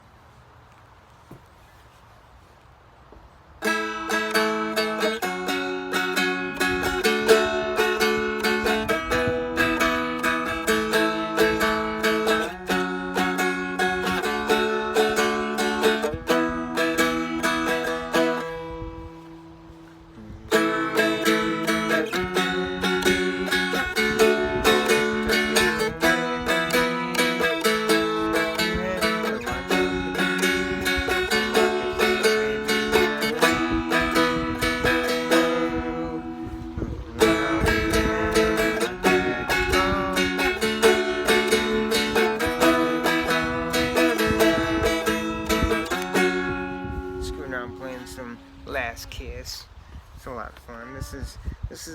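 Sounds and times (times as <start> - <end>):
strummed dulcimer chords: 3.6 - 49.4.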